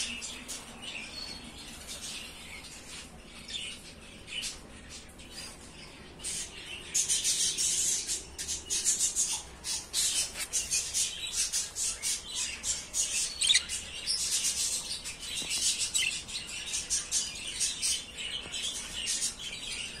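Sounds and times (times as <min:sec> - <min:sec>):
budgerigars chirping and squawking: 0:00.0 - 0:20.0.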